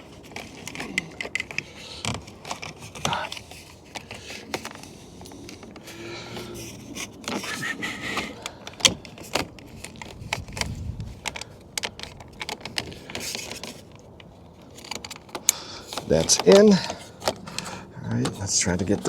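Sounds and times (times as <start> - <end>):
plastic parts clicking: 0.0 - 19.0.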